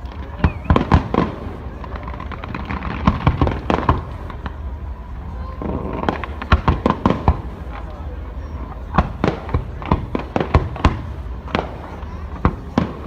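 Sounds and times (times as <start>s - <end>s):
firework bangs: 0.0s - 13.0s
fireworks crackling: 0.0s - 13.0s.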